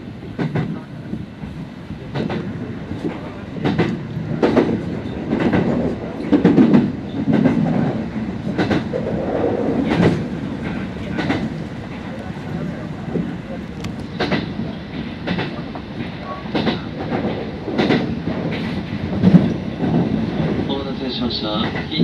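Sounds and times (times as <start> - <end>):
train wheels rumbling: 0.0 - 22.0
wheels clacking over rail joints: 2.1 - 20.9.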